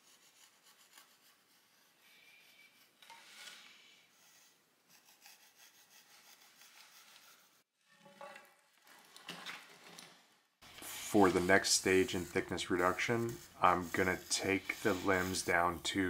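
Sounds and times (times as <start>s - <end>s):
pencil scratching on wood: 0.0s - 7.7s, 10.6s - 16.0s.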